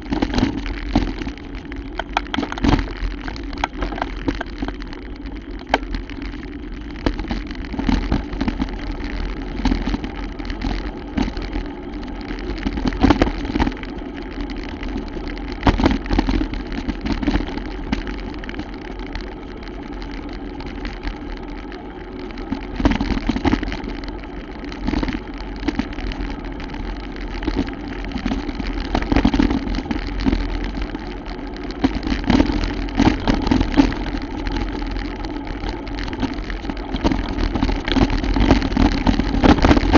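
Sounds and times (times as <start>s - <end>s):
bike knocks and rattles: 0.0s - 11.6s, 12.4s - 18.8s, 24.8s - 39.9s
mountain bike rumbling: 0.0s - 39.9s.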